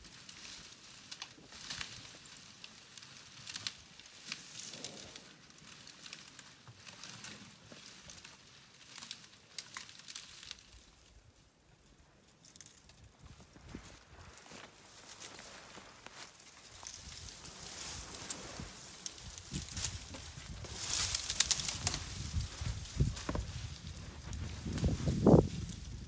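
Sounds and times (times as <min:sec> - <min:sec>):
dry vegetation crackling: 0:00.0 - 0:26.0.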